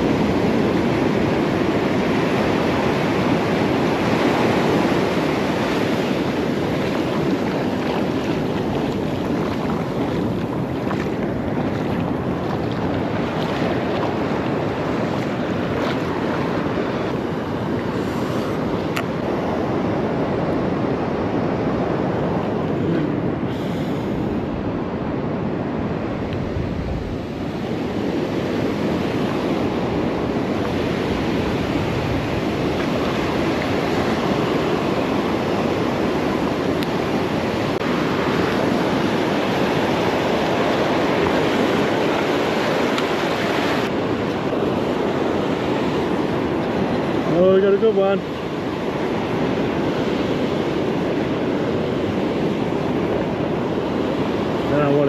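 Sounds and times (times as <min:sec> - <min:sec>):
ocean surf on sand: 0:00.0 - 0:55.0
wind on microphone: 0:00.0 - 0:55.0.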